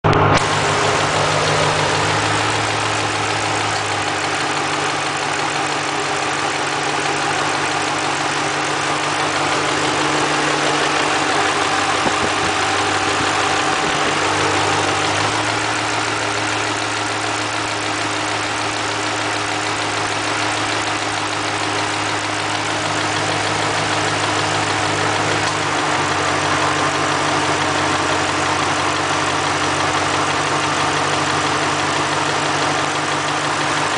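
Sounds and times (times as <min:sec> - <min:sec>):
engine clunking: 0:00.0 - 0:33.9
engine idling: 0:00.0 - 0:33.9.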